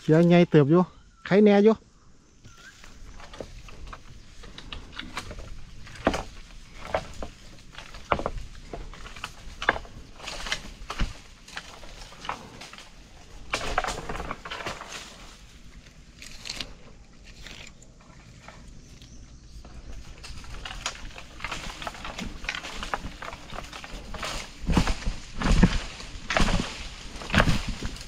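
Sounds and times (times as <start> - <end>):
dry leaves rustling and crackling: 2.6 - 28.0
twigs snapping: 2.7 - 28.0.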